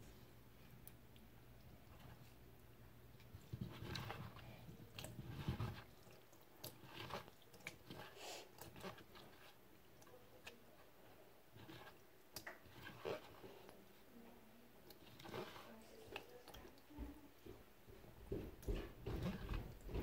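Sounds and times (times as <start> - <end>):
faint clicks taps and rustles: 0.0 - 14.1, 14.8 - 20.0.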